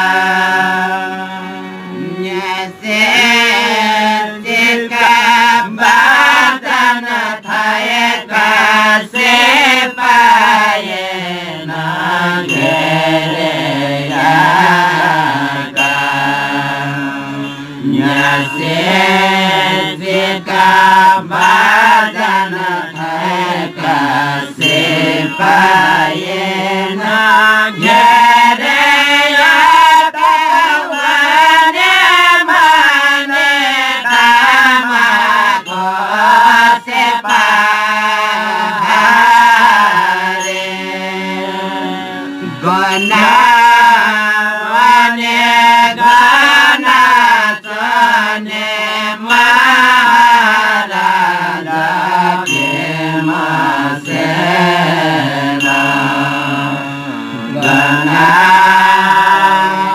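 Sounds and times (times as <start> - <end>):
group chanting in unison: 0.0 - 59.9
harmonium: 0.0 - 59.9
small cymbals: 0.9 - 33.4, 34.0 - 59.9.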